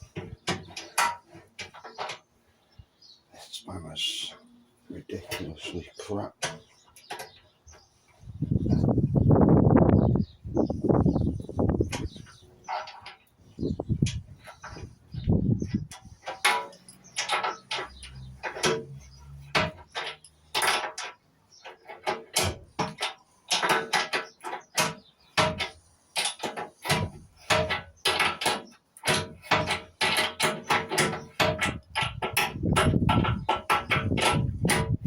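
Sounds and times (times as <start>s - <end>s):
spanner clanking on metal fittings: 0.0s - 2.3s, 5.0s - 7.9s, 11.8s - 35.0s.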